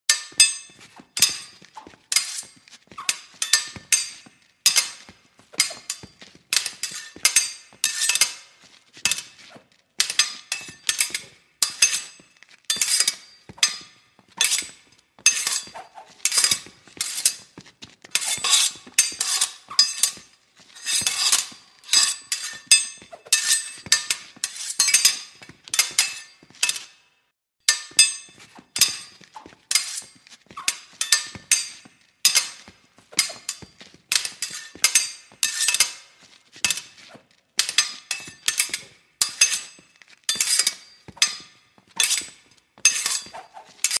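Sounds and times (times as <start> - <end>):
steel blades clashing: 0.1 - 27.0, 27.7 - 44.0.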